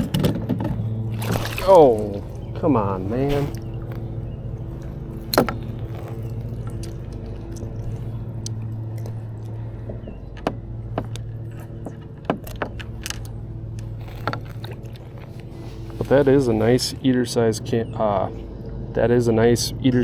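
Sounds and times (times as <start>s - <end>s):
low engine-like hum: 0.0s - 20.0s.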